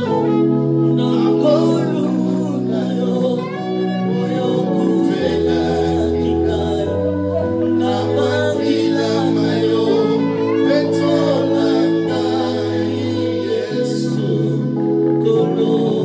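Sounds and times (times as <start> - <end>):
held instrumental chords: 0.0 - 16.0
voices singing gospel: 0.0 - 16.0.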